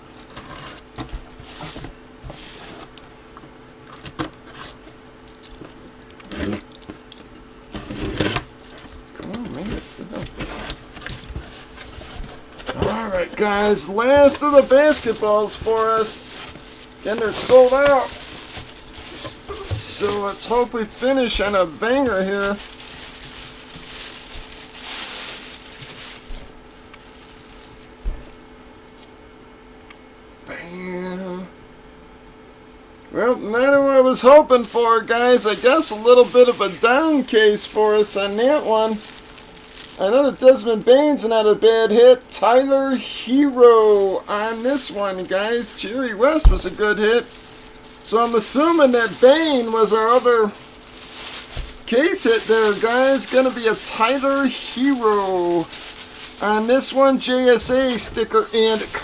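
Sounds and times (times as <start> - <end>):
faint steady hum: 0.0 - 59.0
cardboard and plastic crinkling: 0.2 - 28.5, 34.3 - 41.3, 42.9 - 59.0
box packaging rustling: 0.3 - 7.0, 9.7 - 28.4, 34.3 - 40.6, 43.2 - 59.0.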